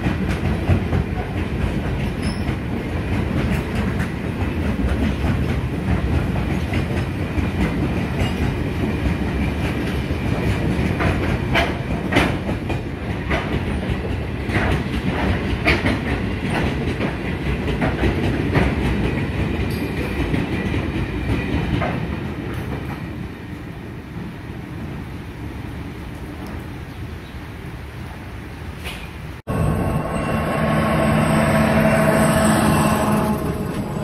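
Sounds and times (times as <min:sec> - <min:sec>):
train wheels rumbling on rail: 0:00.0 - 0:26.8, 0:28.7 - 0:34.0.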